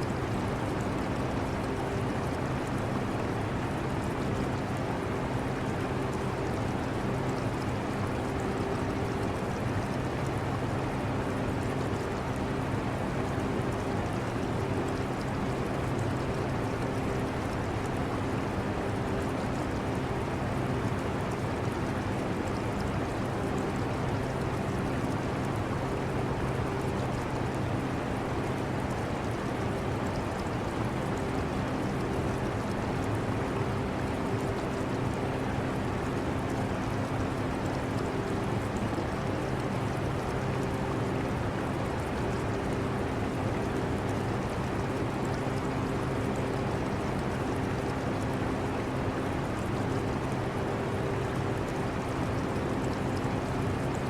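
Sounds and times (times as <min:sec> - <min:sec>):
trickling aquarium water: 0:00.0 - 0:54.0.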